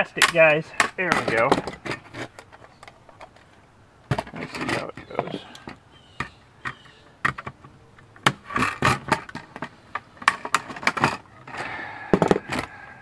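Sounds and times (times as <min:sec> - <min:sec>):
plastic housings cracking: 0:00.0 - 0:12.8.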